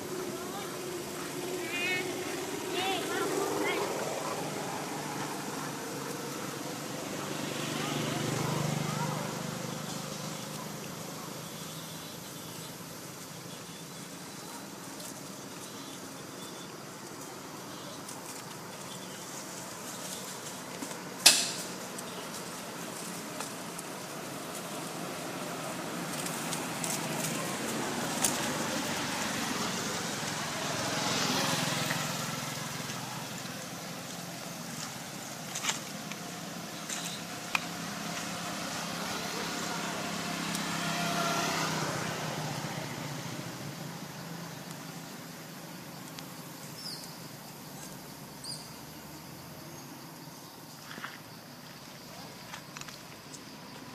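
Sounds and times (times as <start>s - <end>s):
outdoor background noise: 0.0s - 53.9s.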